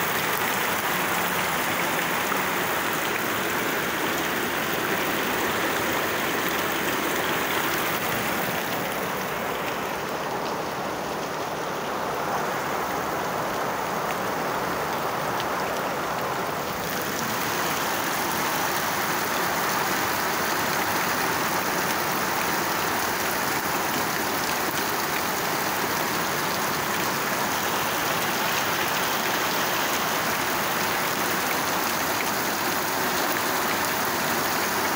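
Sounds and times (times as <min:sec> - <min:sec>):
heavy rain pouring on street: 0:00.0 - 0:34.9.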